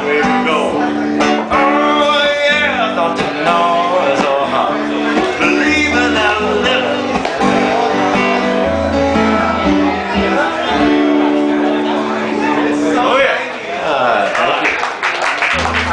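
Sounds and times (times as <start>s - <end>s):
other instruments playing: 0.0s - 13.2s
strummed acoustic guitar chords: 0.0s - 13.2s.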